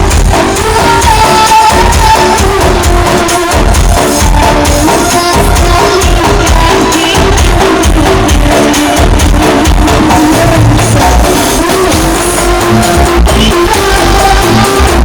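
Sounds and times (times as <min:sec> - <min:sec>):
loud music with pulsing bass beat: 0:00.0 - 0:15.0.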